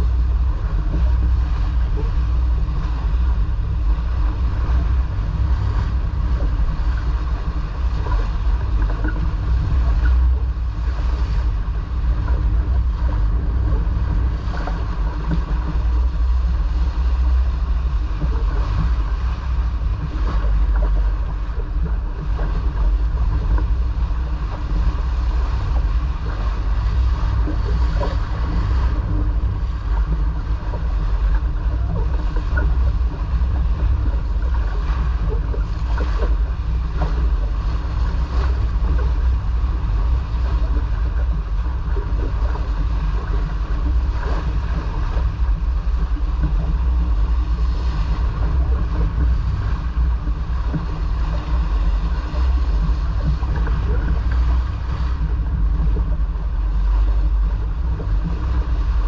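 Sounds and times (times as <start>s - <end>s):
water rushing past hull: 0.0s - 59.0s
wind buffeting microphone: 0.0s - 59.0s.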